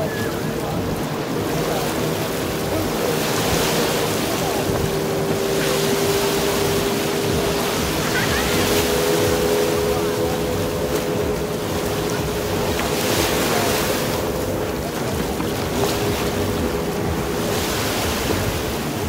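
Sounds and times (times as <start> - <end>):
motorboat engine drone: 0.0 - 19.0
surf washing onto beach: 0.0 - 19.0.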